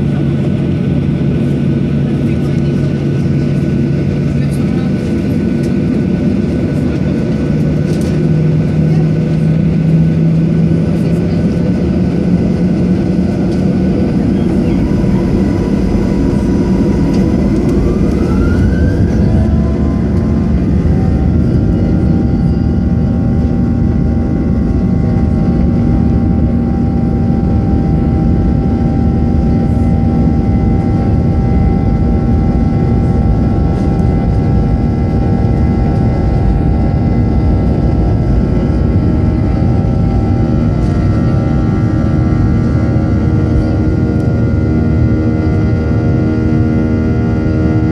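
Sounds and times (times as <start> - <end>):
jet engines spooling up: 0.9 - 45.7.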